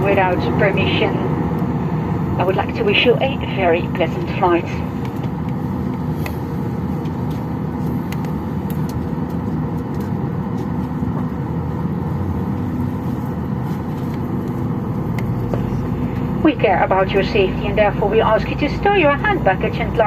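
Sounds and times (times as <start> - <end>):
airliner cabin hum: 0.0 - 20.0.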